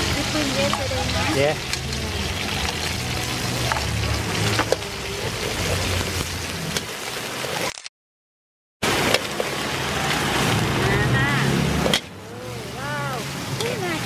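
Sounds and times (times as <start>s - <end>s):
oil sizzling in a wok: 0.0s - 7.6s, 8.8s - 14.0s.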